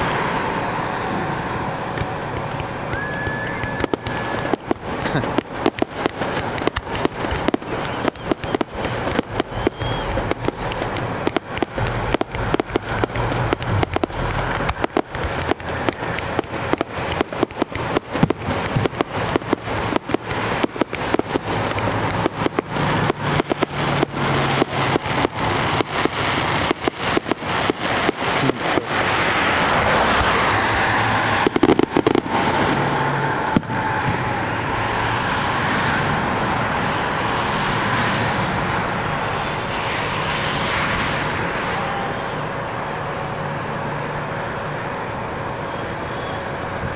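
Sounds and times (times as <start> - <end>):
fireworks bangs and crackles: 0.0 - 46.9
steady rushing noise: 0.0 - 46.9.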